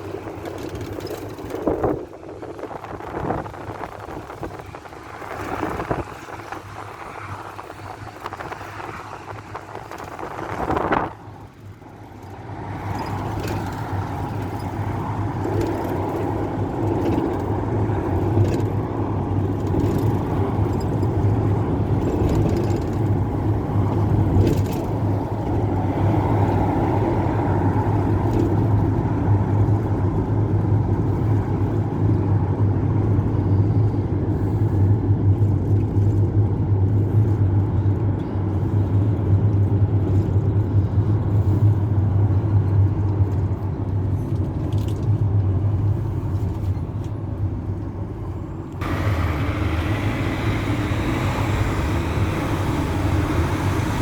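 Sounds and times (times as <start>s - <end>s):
minibus engine and road noise: 0.0s - 54.0s.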